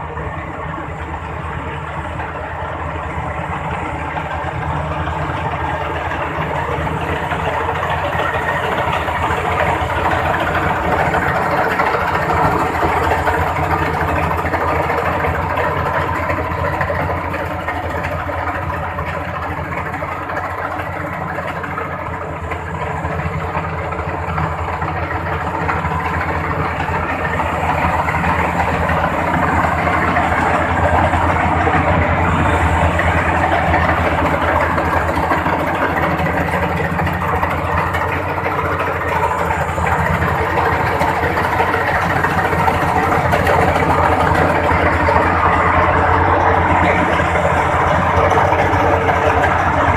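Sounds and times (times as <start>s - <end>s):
combine harvester engine running: 0.0s - 49.9s.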